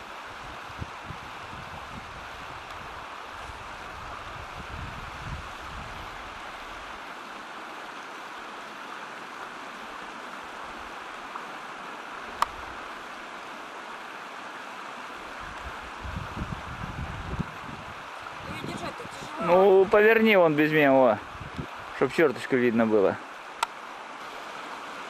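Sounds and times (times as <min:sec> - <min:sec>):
river water flowing over rapids: 0:00.0 - 0:25.0.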